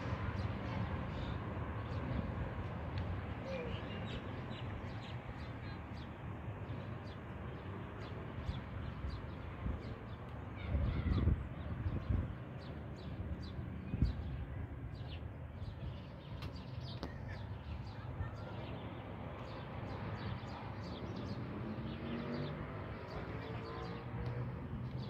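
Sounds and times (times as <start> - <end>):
street noise murmur: 0.0 - 25.0.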